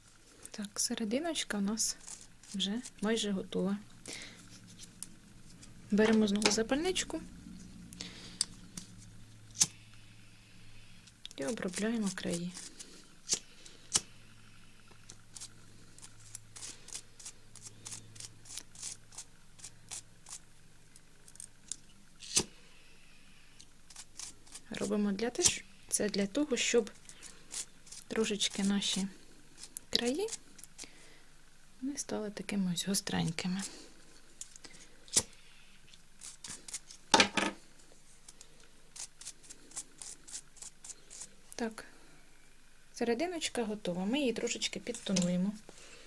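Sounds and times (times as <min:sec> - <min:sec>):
faint low hum: 0:00.0 - 0:46.0.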